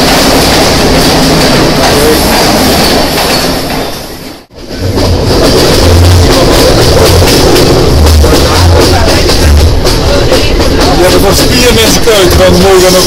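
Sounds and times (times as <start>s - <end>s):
train passing close by: 0.0s - 13.0s
train running noise: 0.0s - 13.0s.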